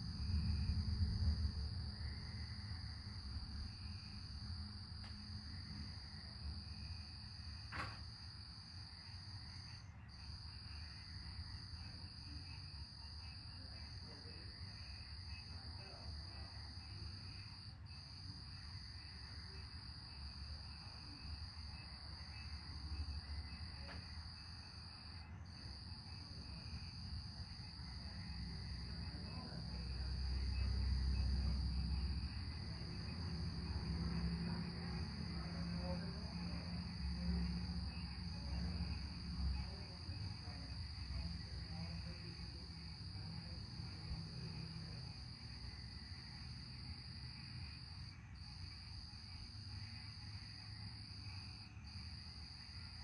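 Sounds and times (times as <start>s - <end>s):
night insects chorus: 0.0s - 53.0s.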